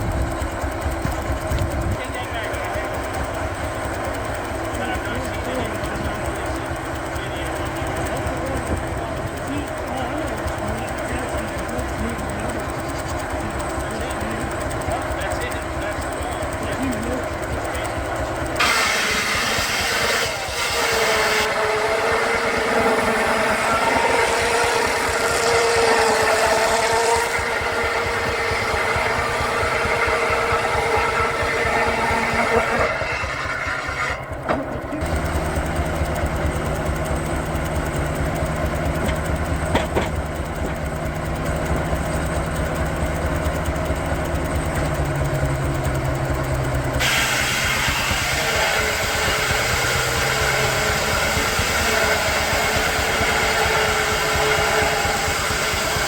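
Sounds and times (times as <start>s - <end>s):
circular saw whining through log: 0.0s - 56.0s
steam engine exhaust beat: 0.0s - 56.0s.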